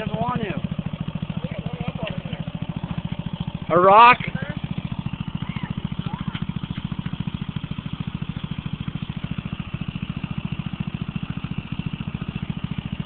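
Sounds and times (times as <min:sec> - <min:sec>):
lawn mower engine idling: 0:00.0 - 0:13.0.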